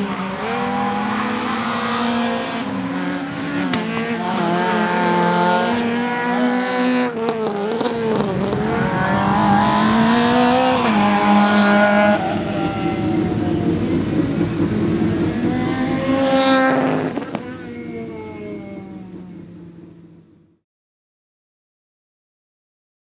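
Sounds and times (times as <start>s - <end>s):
rally car engine revving past: 0.0s - 19.1s.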